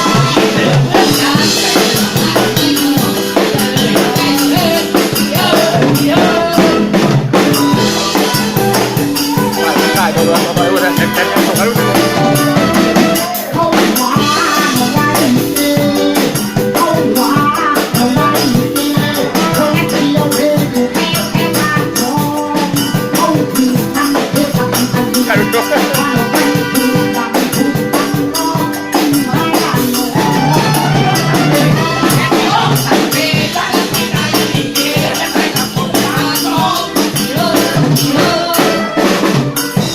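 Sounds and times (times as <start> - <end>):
drum kit beat: 0.0 - 39.9
melodic lead line: 0.0 - 39.9.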